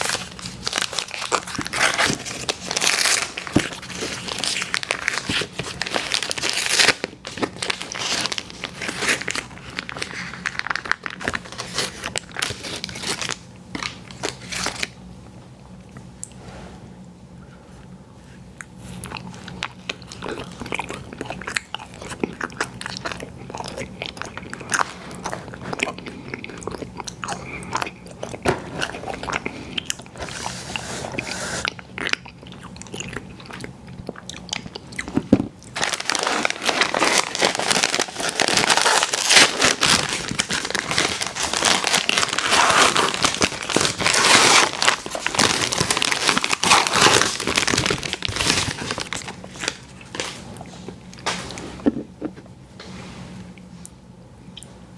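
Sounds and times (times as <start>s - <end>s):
biting and chewing food: 0.0s - 15.0s, 18.5s - 52.5s.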